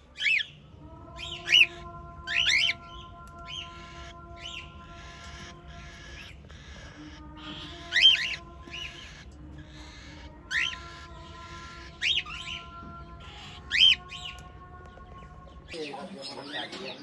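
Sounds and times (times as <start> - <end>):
cockatiels soft chattering: 0.2 - 0.6, 1.2 - 17.0.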